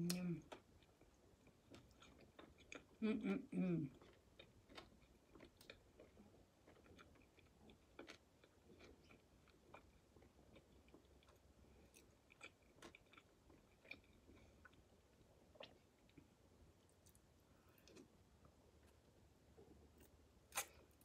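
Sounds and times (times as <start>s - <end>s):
faint chewing: 0.0s - 3.0s, 3.8s - 21.0s.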